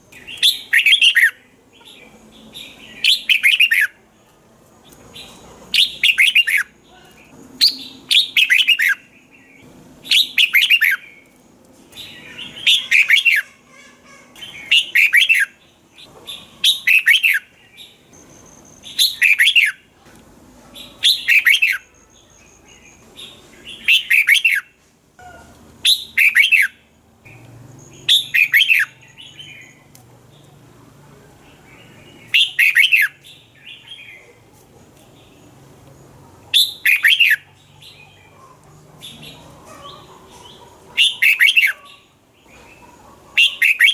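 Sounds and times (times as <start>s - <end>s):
bird singing warbled phrases: 0.1s - 19.9s, 20.8s - 30.6s, 31.3s - 34.5s, 36.4s - 43.9s.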